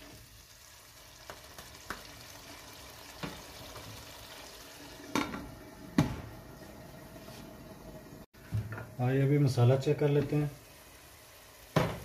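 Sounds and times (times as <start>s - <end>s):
masala sizzling in oil: 0.0s - 8.3s, 9.0s - 12.0s.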